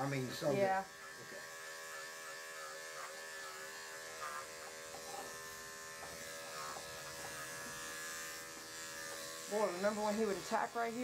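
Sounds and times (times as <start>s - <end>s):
electric clipper buzzing: 0.0s - 11.0s.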